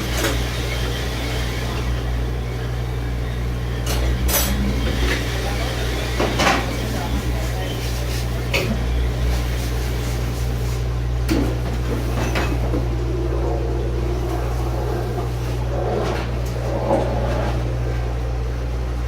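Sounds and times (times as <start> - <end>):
kitchen machinery humming: 0.0 - 19.0.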